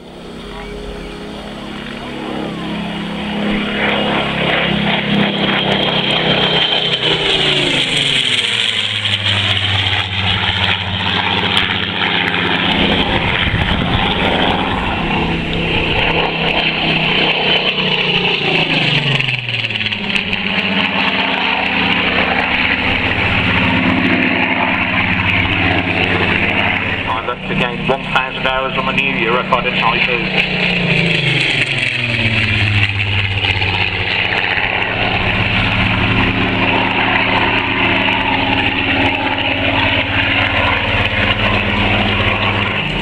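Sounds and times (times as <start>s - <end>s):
propeller plane engine fly-by: 0.0s - 43.0s.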